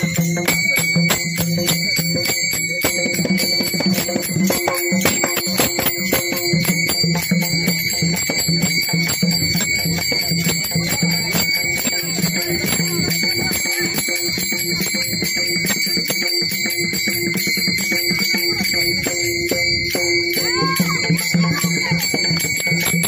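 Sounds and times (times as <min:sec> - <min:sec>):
hand cymbals ringing: 0:00.0 - 0:23.0.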